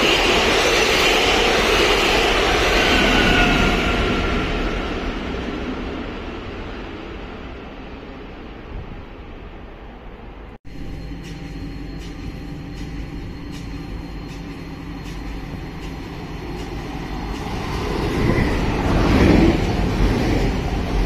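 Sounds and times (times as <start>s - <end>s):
electric train approaching: 0.0s - 8.7s, 10.7s - 21.0s.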